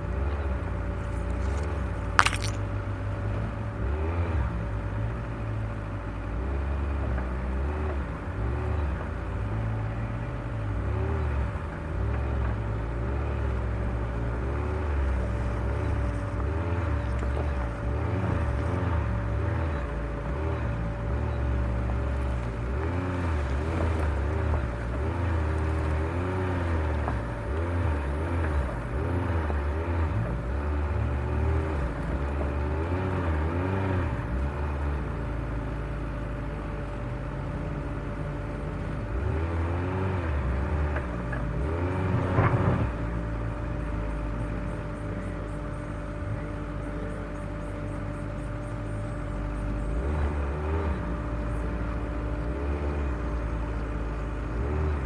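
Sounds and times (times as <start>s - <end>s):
off-road vehicle engine revving: 3.4s - 55.0s.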